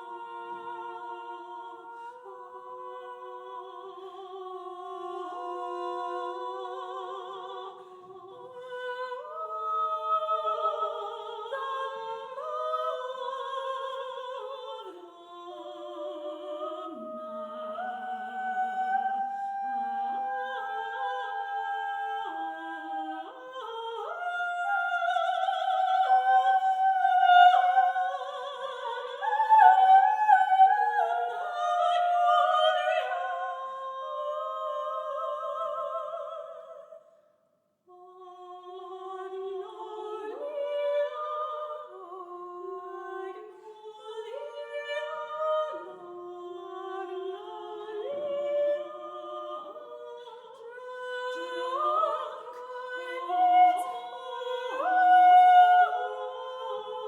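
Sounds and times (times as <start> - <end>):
women singing a duet: 0.0 - 37.0, 37.9 - 57.0.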